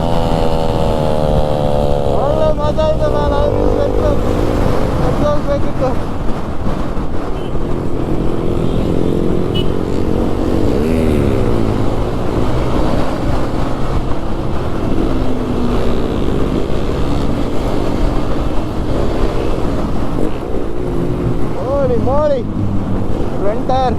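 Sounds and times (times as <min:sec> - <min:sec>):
motorcycle engine running: 0:00.0 - 0:23.9
wind and road noise: 0:00.0 - 0:23.9.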